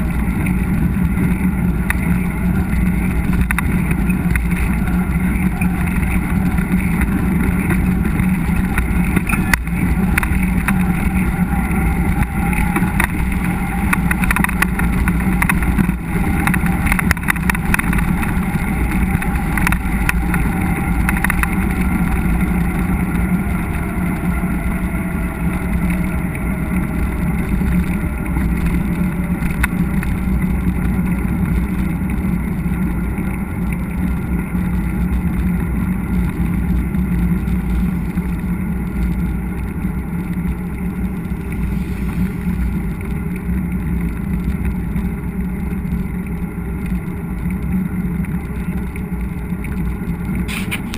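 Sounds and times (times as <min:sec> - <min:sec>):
bike riding rumble: 0:00.0 - 0:50.9
wind noise: 0:00.0 - 0:50.9.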